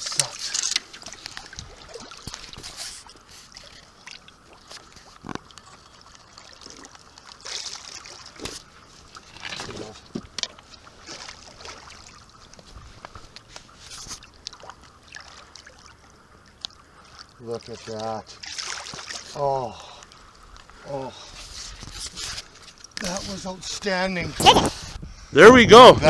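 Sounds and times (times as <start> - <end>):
river water splashing: 0.0 - 21.8.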